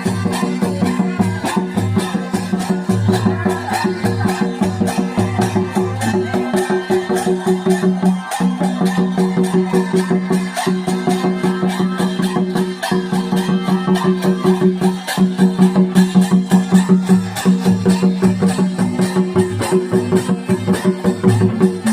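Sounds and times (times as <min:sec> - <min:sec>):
fast even drumbeat: 0:00.0 - 0:21.9.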